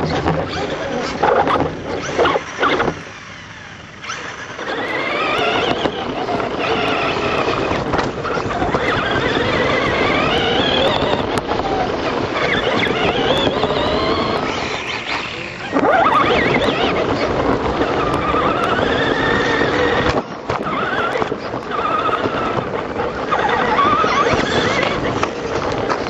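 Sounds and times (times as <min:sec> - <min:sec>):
toy truck electric motors whining: 0:00.0 - 0:26.0.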